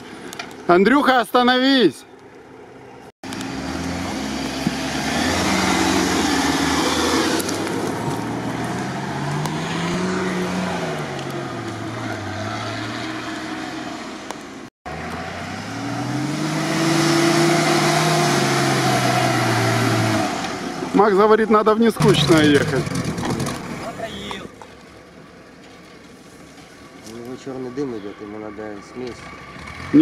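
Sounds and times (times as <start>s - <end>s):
off-road engines revving: 3.2s - 24.6s, 27.1s - 30.0s.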